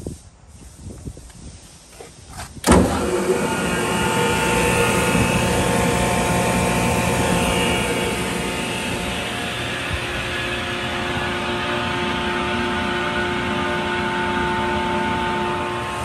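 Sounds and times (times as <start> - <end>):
air compressor running: 2.6 - 16.0.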